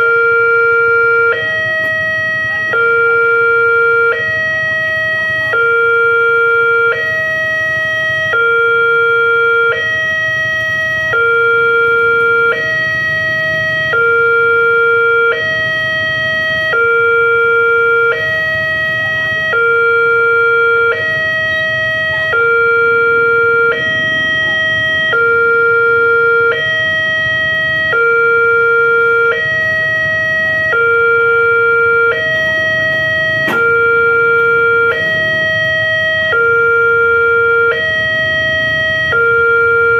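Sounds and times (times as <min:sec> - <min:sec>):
level-crossing two-tone alarm: 0:00.0 - 0:39.9.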